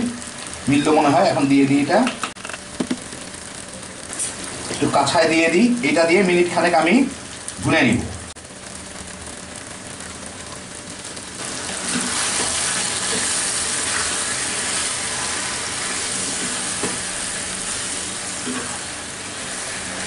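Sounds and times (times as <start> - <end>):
chicken sizzling in a pan: 0.0 - 20.0.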